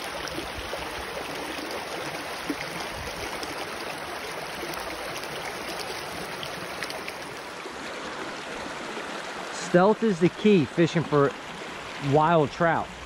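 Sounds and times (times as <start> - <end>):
brook babbling over stones: 0.0 - 13.0.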